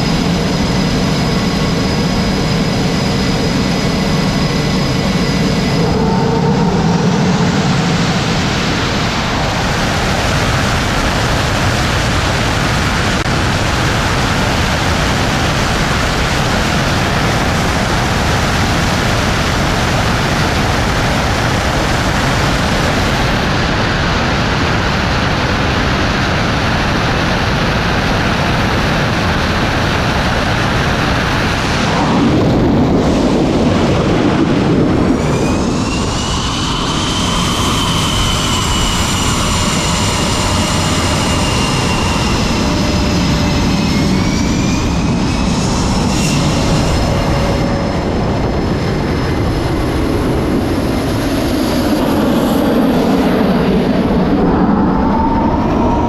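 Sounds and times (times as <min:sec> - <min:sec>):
high turbine whine: 0:00.0 - 0:56.0
jet engine noise: 0:00.0 - 0:56.0.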